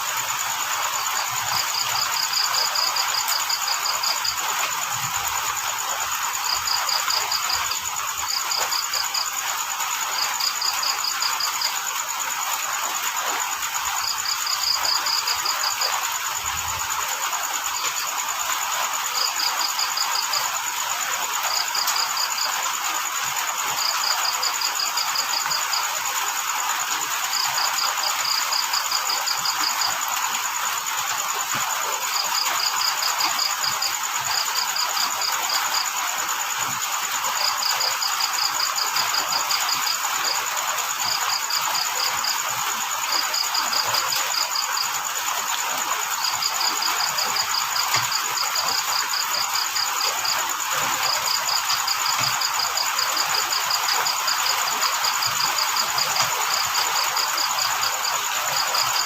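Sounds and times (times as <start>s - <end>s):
crickets chirping: 0.0s - 59.0s
high insect trill: 0.0s - 59.0s
rain falling: 0.0s - 59.0s.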